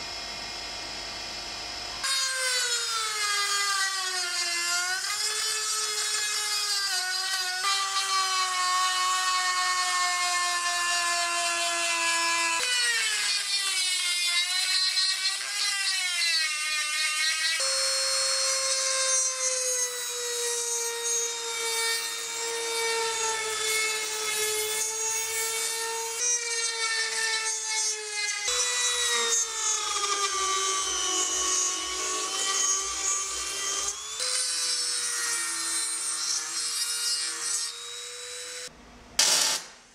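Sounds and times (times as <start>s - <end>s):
rotary tool grinding steel: 2.0s - 39.6s.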